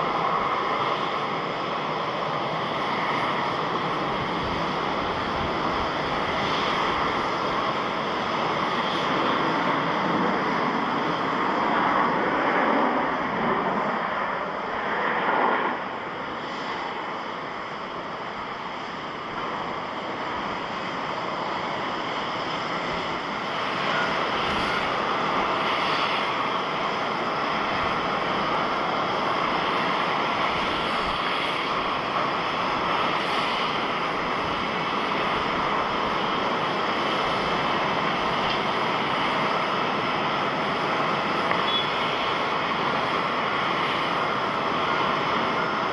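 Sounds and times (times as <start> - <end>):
jet airliner engines rushing: 0.0 - 45.9.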